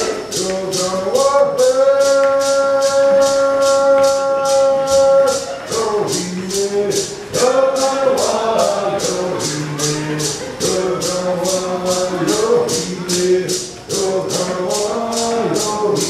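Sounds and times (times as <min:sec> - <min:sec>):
person singing: 0:00.0 - 0:16.0
rattle shaken in steady beat: 0:00.0 - 0:16.0.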